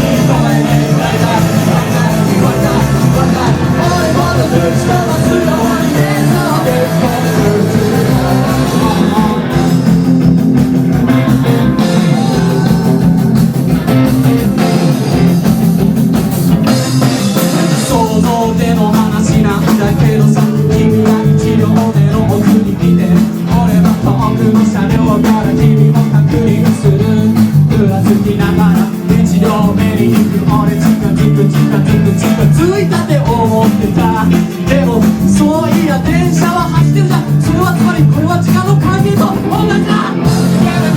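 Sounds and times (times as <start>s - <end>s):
person singing: 0.0s - 15.3s, 17.4s - 40.9s
electric guitar: 0.0s - 40.9s
rock band playing live: 0.0s - 40.9s.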